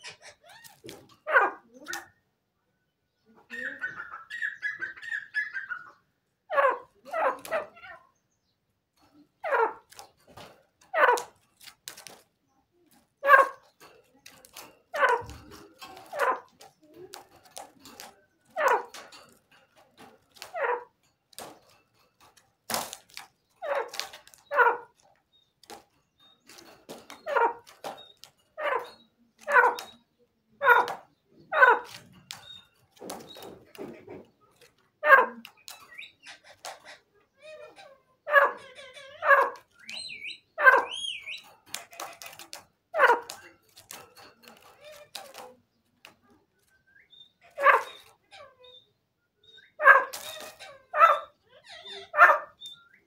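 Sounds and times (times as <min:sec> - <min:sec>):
bird harsh calls: 0:00.0 - 0:02.2, 0:03.1 - 0:10.2, 0:10.8 - 0:12.1, 0:13.0 - 0:53.0.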